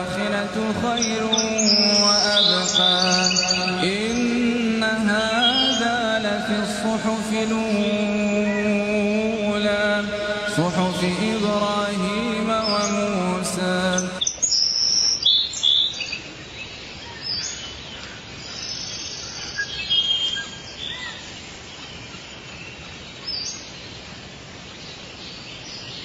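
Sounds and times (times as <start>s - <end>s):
birds chirping and calling: 0.0s - 23.8s.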